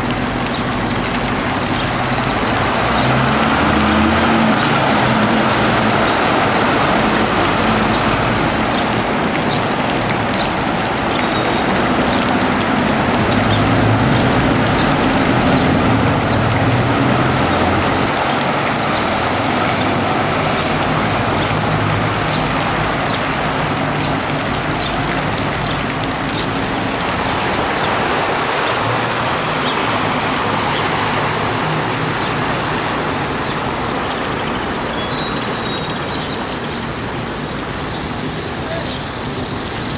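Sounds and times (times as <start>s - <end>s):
rain and water noise: 0.0s - 39.9s.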